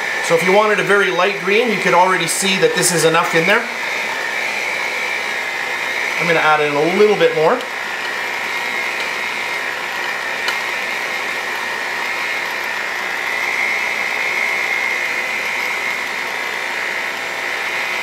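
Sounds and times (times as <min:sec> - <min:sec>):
electric hand mixer whirring: 0:00.0 - 0:18.0.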